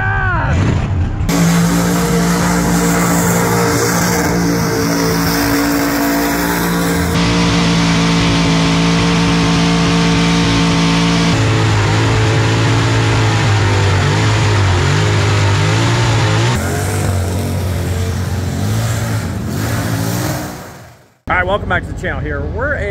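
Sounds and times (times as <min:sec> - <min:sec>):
supercharged engine revving: 0:01.3 - 0:21.2.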